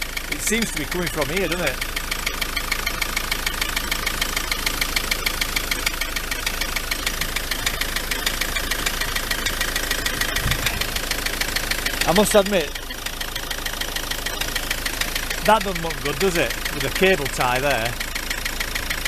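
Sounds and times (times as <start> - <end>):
diesel engine idling with knock: 0.0 - 19.0.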